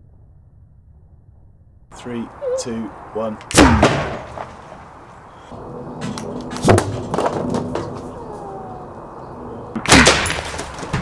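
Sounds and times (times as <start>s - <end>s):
sharp bangs with ringing tail: 2.0s - 11.0s.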